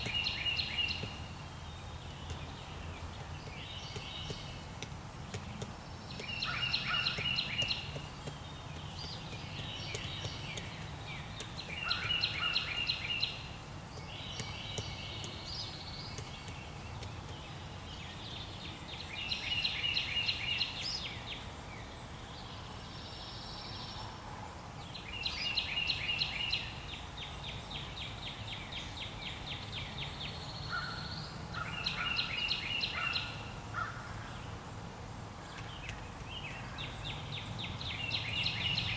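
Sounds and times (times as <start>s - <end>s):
songbird singing rapid notes: 0.0s - 24.1s, 24.8s - 34.6s, 35.4s - 38.9s.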